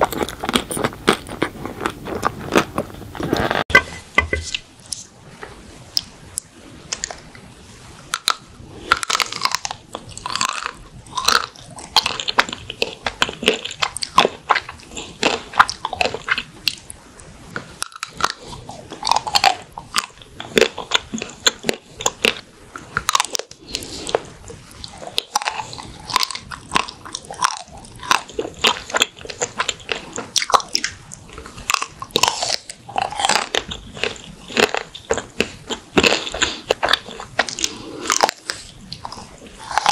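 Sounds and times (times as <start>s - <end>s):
chewing: 0.0s - 3.7s, 8.2s - 39.9s.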